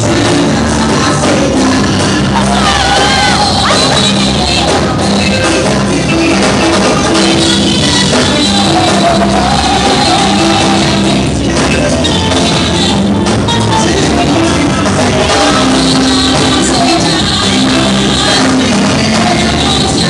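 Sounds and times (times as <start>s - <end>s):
gospel band playing: 0.0s - 20.0s
woman singing into microphone: 0.0s - 20.0s.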